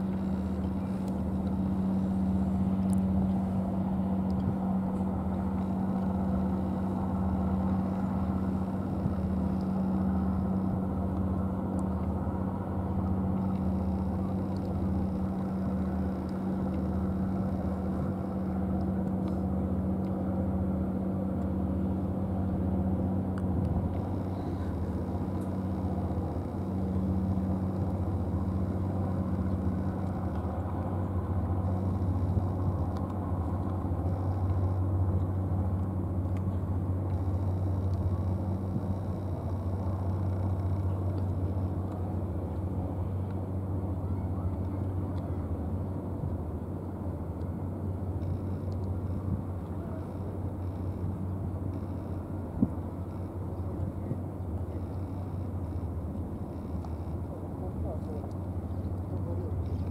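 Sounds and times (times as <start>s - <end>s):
engine rumble: 0.0s - 59.9s.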